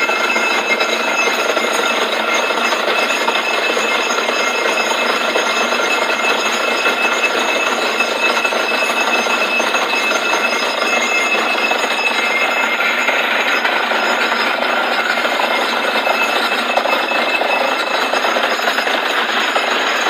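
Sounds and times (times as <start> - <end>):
drilling rig rattling: 0.0 - 20.0
thin steady whine: 0.0 - 20.0.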